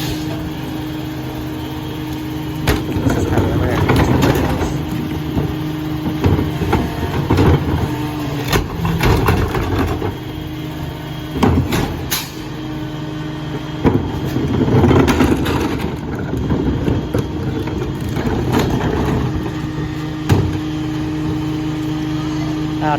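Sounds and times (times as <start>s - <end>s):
garbage truck engine running: 0.0s - 22.9s.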